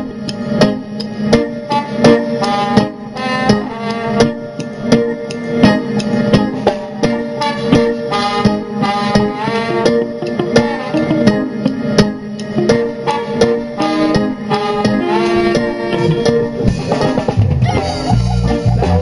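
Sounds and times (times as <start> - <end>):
live band music over pa: 0.0 - 19.0.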